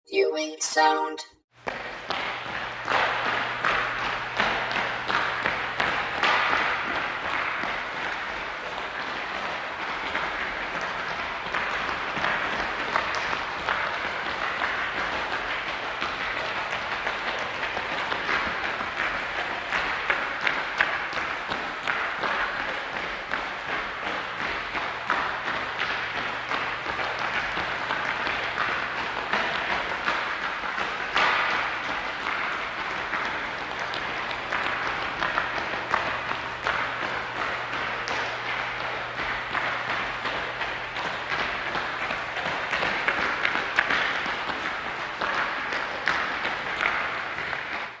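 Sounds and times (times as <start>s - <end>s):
footfalls on gym floor: 1.6s - 47.9s.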